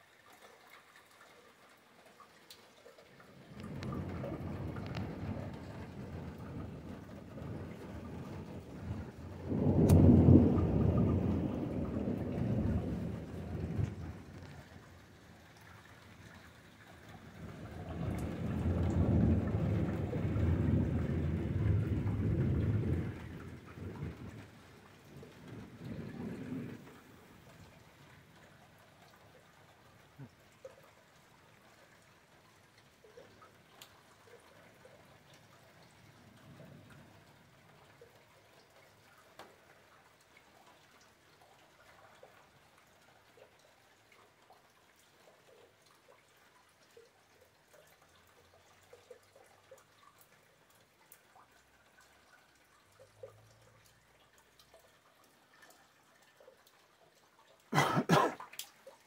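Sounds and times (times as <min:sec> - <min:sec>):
rain drops ticking: 0:00.0 - 0:59.0.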